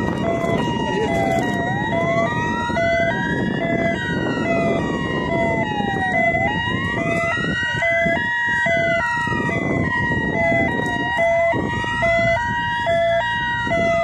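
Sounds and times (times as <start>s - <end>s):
two-tone siren: 0.0s - 14.0s
wailing siren: 0.0s - 14.0s.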